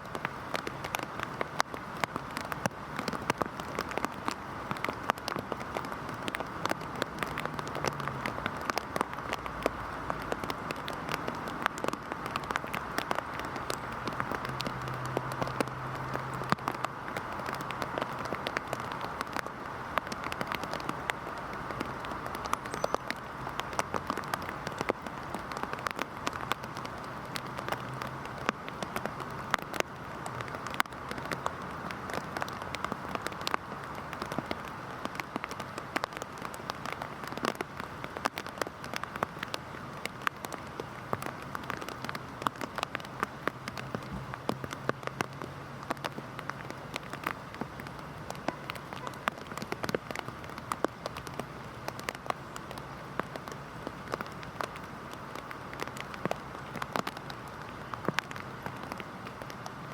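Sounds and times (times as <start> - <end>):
heavy rain on hard surface: 0.0 - 59.9.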